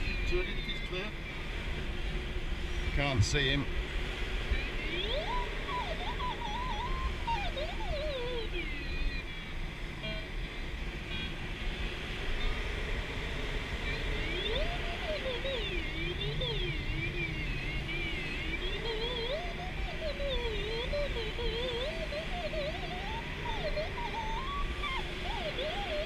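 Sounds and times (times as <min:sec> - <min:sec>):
variometer tone gliding in pitch: 0:04.3 - 0:11.4, 0:12.2 - 0:26.0.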